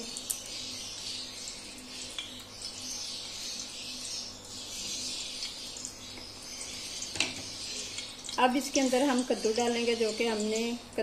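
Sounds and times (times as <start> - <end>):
ghee sizzling softly: 0.0 - 11.0.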